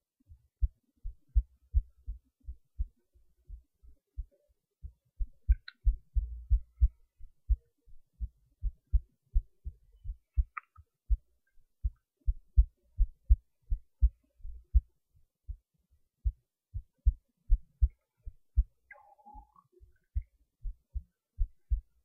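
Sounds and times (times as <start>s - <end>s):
heartbeat thumps: 0.2s - 14.9s, 16.2s - 22.0s.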